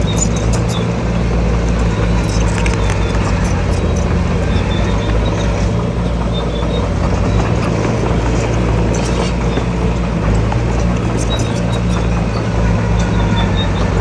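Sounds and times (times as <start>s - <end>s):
heavy machinery diesel engine running: 0.0s - 14.0s
sharp knocks and rattles: 0.0s - 14.0s.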